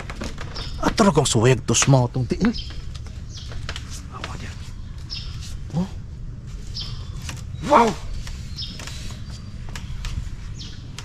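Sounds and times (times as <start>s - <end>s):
bamboo walkway creaking and clicking: 0.0s - 11.0s.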